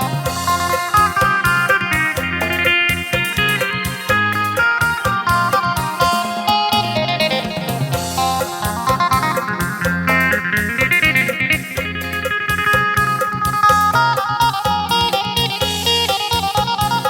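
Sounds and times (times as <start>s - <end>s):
bass line: 0.0s - 17.0s
fast plucked lute melody: 0.0s - 17.0s
steady beat: 0.0s - 17.0s.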